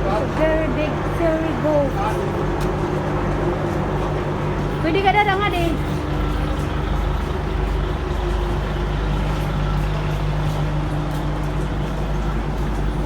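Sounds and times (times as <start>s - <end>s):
ferry engine humming: 0.0s - 13.0s.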